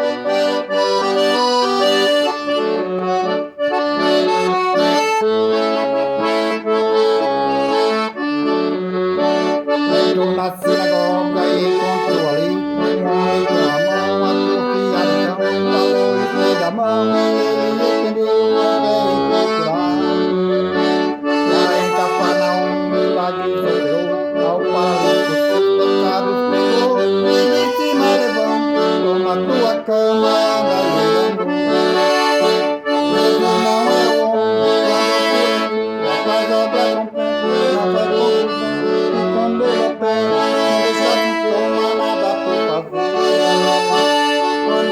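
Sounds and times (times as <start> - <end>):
accordion playing: 0.0 - 44.9.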